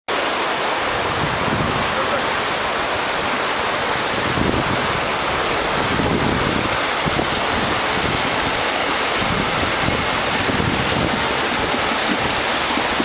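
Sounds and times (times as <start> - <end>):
fast-flowing river water: 0.1 - 13.0.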